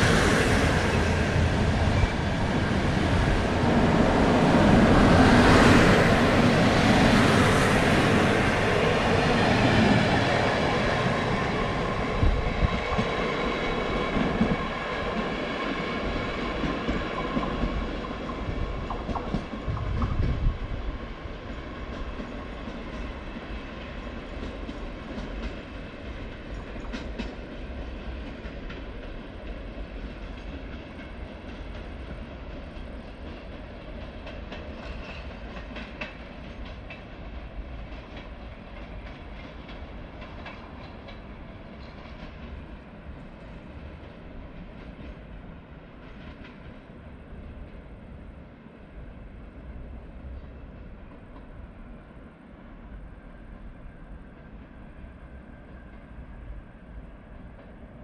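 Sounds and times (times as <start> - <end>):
train rumble and wheel clatter: 0.0 - 58.0.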